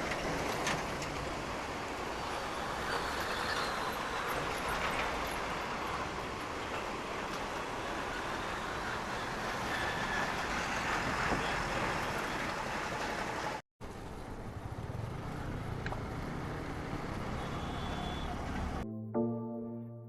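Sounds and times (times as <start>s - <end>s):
passing traffic: 0.0s - 18.8s.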